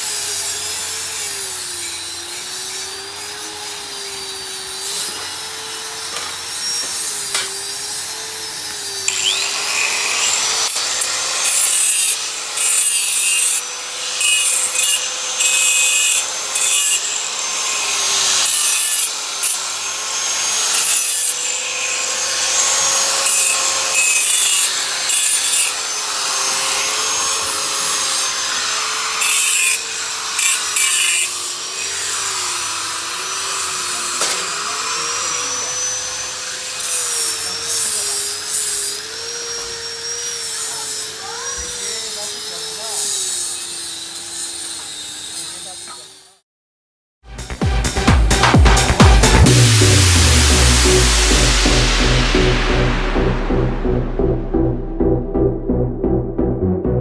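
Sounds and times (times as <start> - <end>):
power tool whining: 0.0 - 46.4.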